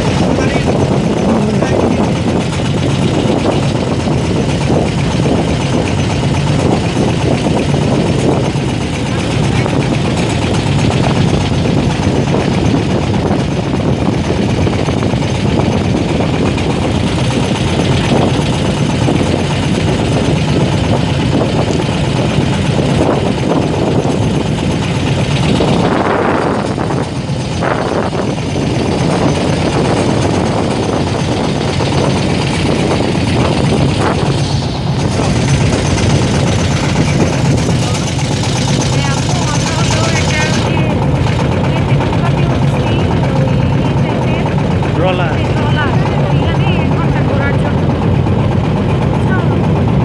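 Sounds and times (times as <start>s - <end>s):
boat engine drone: 0.0s - 50.0s
water noise: 0.0s - 50.0s
wind noise: 0.0s - 50.0s.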